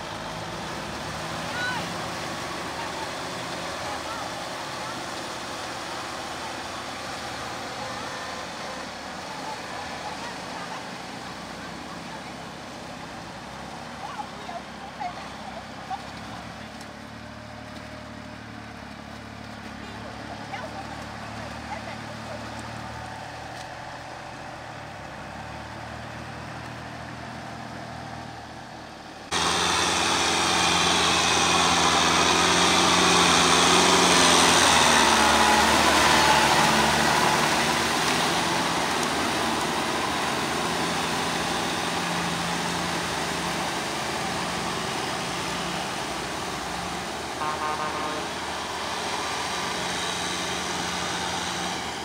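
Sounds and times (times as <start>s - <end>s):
diesel tractor engines running: 0.0s - 52.0s
tractor driving through mud: 0.0s - 52.0s.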